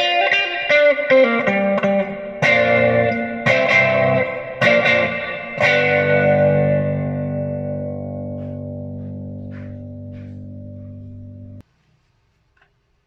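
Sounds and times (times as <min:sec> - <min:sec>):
electric guitar chords: 0:00.0 - 0:11.6.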